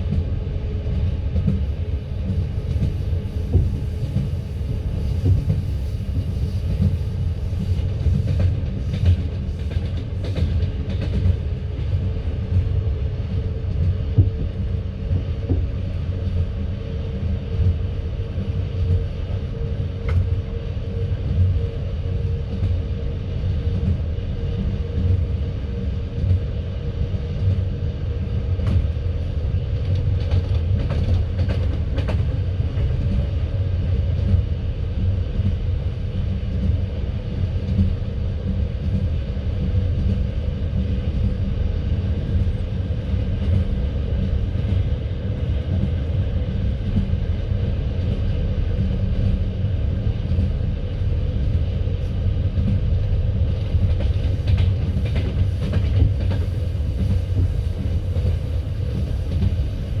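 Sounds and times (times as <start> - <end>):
train wheels rumbling: 0.0 - 60.0.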